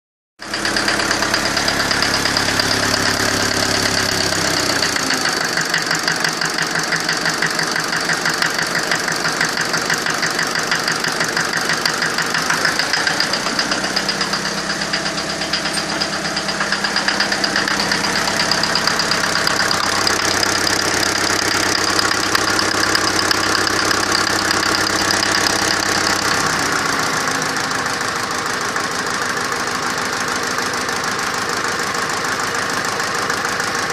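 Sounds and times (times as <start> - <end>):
engine running rough with knock: 0.4 - 33.9.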